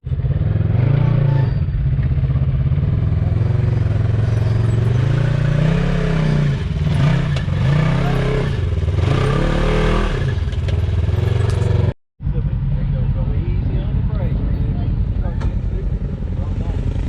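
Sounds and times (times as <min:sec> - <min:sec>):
utility vehicle engine revving: 0:00.0 - 0:17.0.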